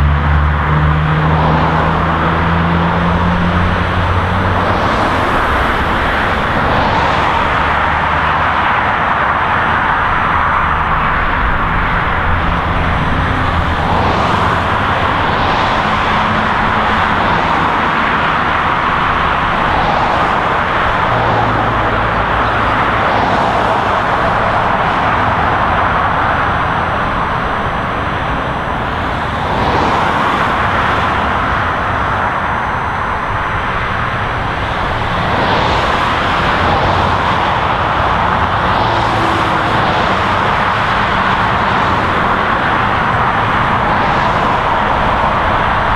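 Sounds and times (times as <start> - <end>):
highway traffic noise: 0.0 - 45.9
low engine hum: 0.0 - 45.9
vehicles passing close by: 0.0 - 45.9.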